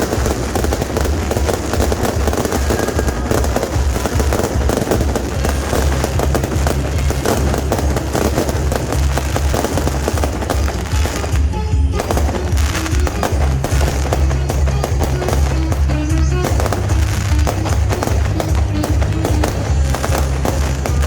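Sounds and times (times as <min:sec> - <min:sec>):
rocket fireworks popping and crackling: 0:00.0 - 0:21.0.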